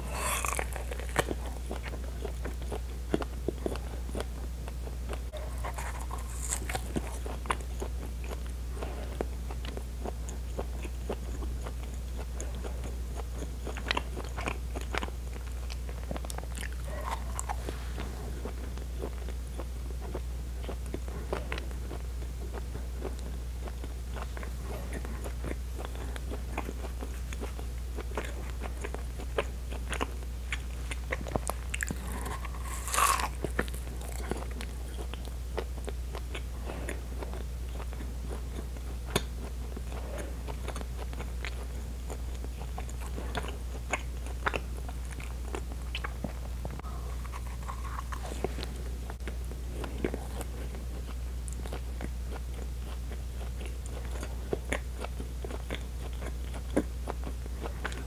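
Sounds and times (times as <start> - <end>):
chewing with mouth clicks: 0.0 - 58.0
steady low hum: 0.0 - 58.0.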